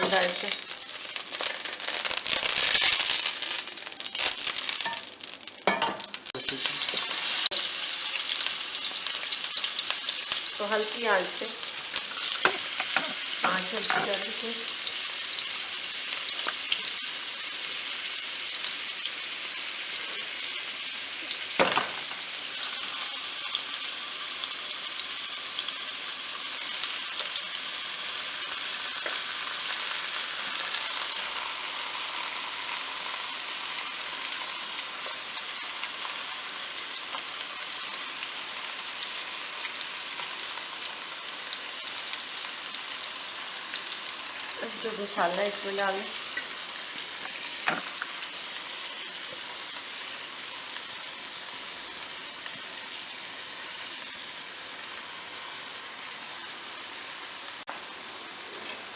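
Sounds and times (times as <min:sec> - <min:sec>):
chicken sizzling in oil: 0:00.0 - 0:58.9.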